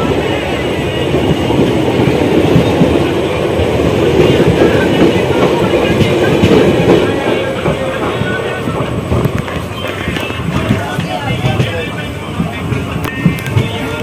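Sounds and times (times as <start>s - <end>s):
train wheels rumbling and clattering: 0.0s - 14.0s.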